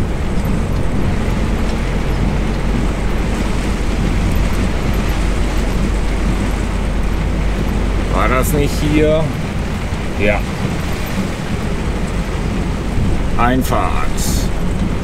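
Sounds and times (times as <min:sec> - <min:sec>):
diesel engine drone: 0:00.0 - 0:15.0
tyres hissing on wet road: 0:00.0 - 0:15.0.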